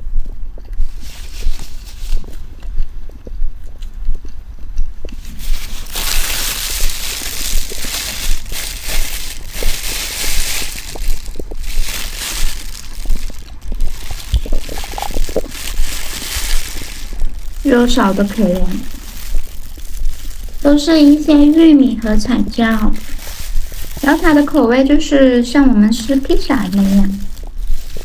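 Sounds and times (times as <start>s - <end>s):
chewing soft bread: 0.0s - 28.0s
rustling hiss: 0.8s - 2.8s, 5.1s - 28.0s.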